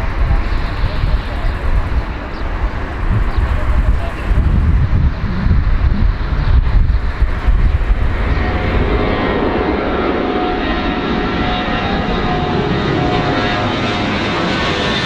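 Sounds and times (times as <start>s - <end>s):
airplane engines running: 0.0s - 15.0s
high engine whine: 0.0s - 15.0s.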